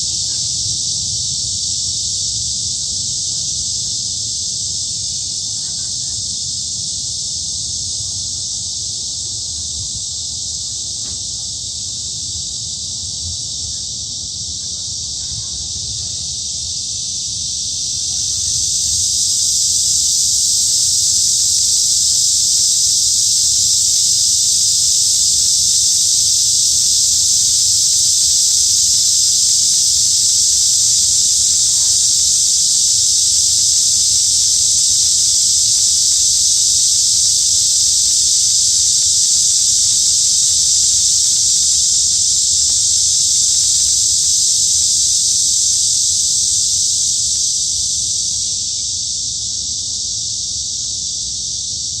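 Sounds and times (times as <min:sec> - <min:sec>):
cicadas buzzing: 0:00.0 - 0:52.0.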